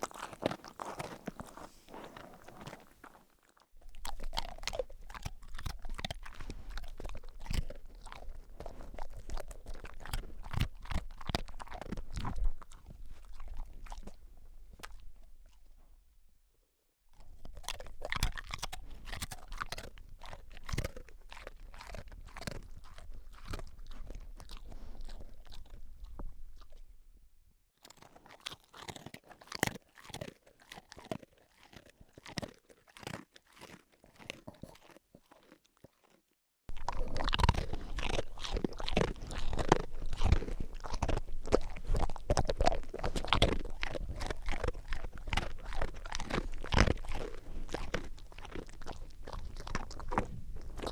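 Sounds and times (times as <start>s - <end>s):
dog crunching and chewing food: 0.0s - 15.9s, 17.1s - 26.9s, 27.8s - 50.9s.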